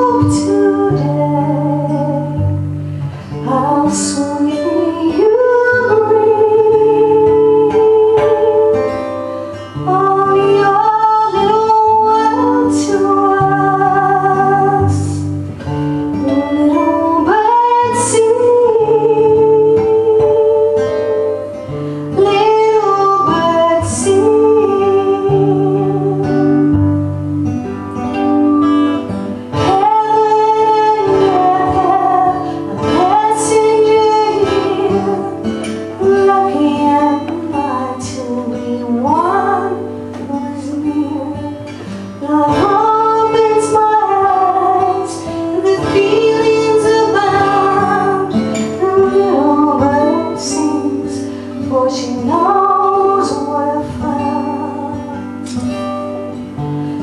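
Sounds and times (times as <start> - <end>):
acoustic guitar: 0.0 - 57.0
woman singing folk song: 0.0 - 57.0.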